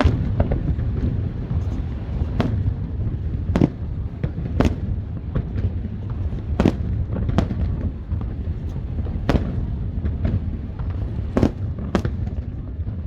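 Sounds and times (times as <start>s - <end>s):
firework shells bursting: 0.0s - 12.4s
steady low rumble: 0.0s - 13.0s.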